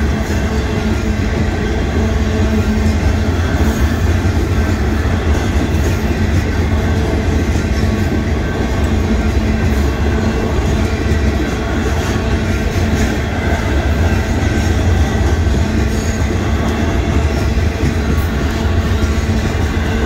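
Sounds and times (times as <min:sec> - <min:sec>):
train wheels on rails: 0:00.0 - 0:20.0.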